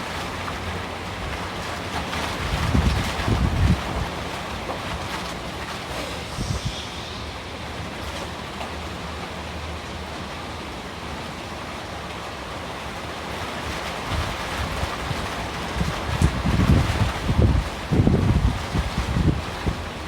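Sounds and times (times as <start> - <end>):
wind gusts buffeting microphone: 0.0 - 10.2, 13.4 - 20.0
wind and rain: 0.0 - 20.0.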